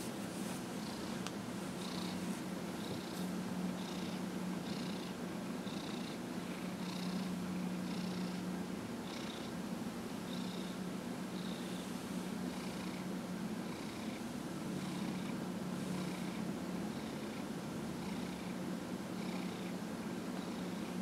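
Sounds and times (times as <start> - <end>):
cat purring: 0.5 - 9.5, 10.3 - 18.6, 19.2 - 19.8, 20.4 - 21.0.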